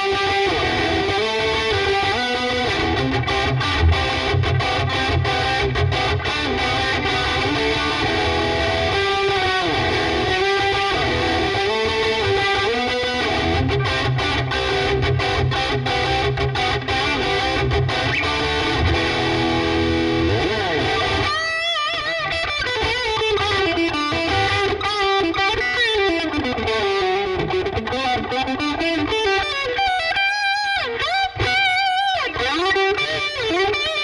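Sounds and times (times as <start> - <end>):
distorted electric guitar: 0.0 - 34.0.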